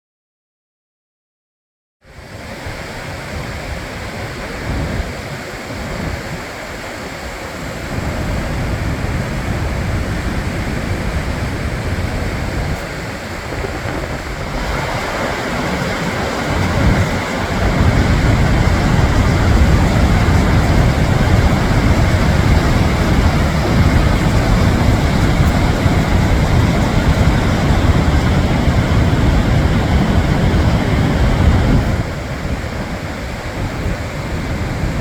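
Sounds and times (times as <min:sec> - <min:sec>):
waterfall roaring: 0:02.2 - 0:35.0
wind buffeting microphone: 0:02.2 - 0:35.0.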